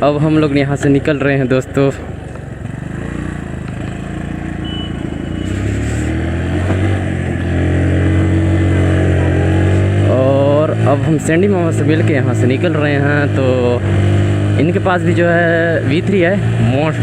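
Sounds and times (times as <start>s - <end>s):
motorcycle engine pulling away: 0.3s - 16.9s.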